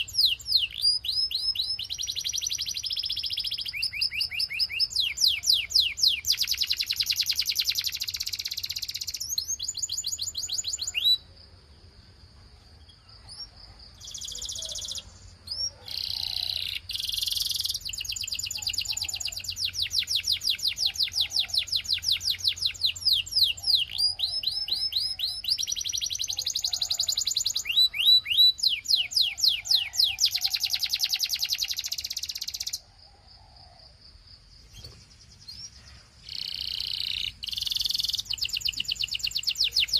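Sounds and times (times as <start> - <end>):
canary singing trills: 0.0 - 11.5, 12.6 - 33.9, 34.6 - 39.9.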